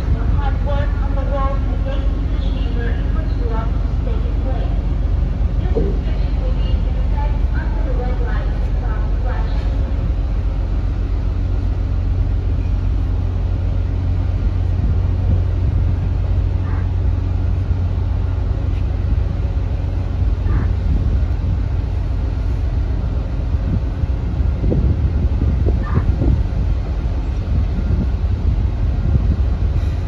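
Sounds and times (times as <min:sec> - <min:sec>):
constant hum: 0:00.0 - 0:30.0
ship machinery rumble: 0:00.0 - 0:30.0.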